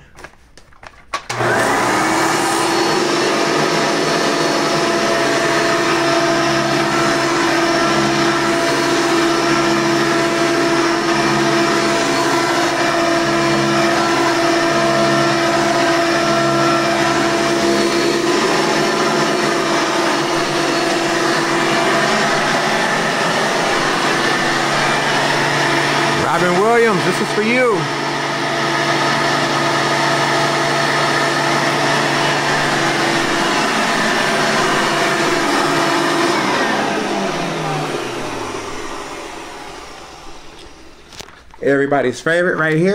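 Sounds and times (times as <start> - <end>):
vacuum cleaner motor whine: 1.3 - 41.5.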